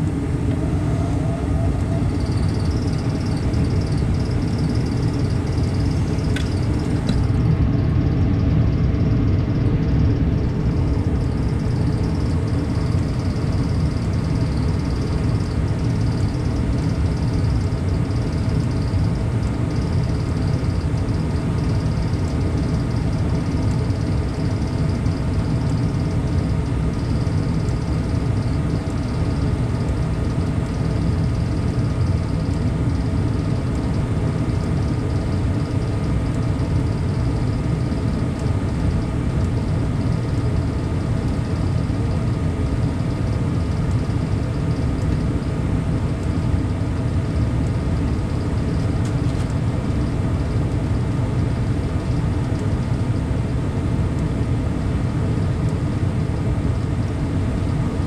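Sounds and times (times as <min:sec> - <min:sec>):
furnace fan motor hum: 0:00.0 - 0:58.0.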